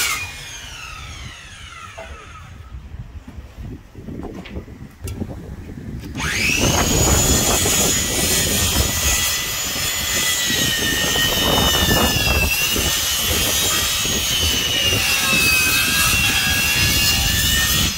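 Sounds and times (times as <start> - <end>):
motor whining: 0.0 - 2.7, 6.1 - 17.9.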